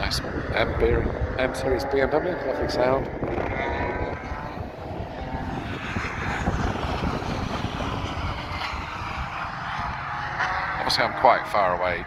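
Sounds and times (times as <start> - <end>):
racing car engine passing: 0.0 - 12.0
wind buffeting microphone: 0.0 - 12.0.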